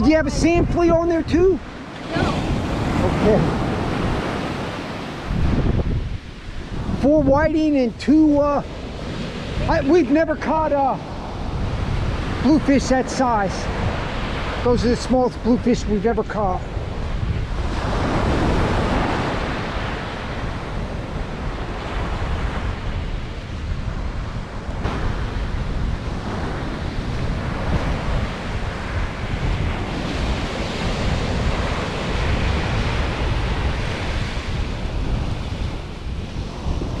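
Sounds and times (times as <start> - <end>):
ocean surf washing up beach: 0.0 - 37.0
wind buffeting microphone: 0.0 - 37.0.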